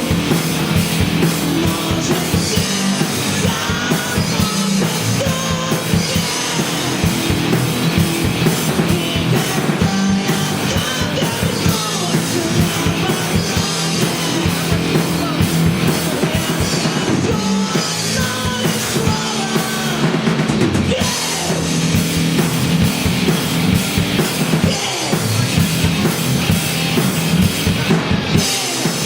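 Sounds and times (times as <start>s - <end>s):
drum kit beat: 0.0s - 29.0s
live rock band playing: 0.0s - 29.0s.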